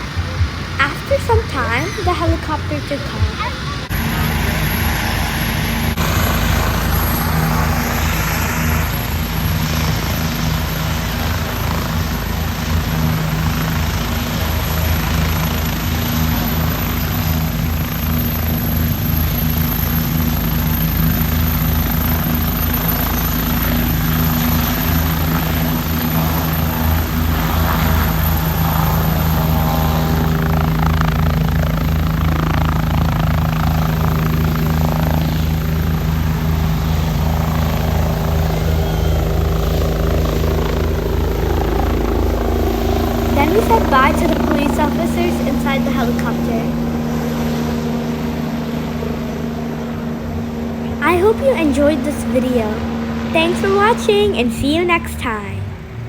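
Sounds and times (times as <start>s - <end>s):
helicopter rotor chop: 0.0s - 56.0s
high turbine whine: 0.0s - 56.0s.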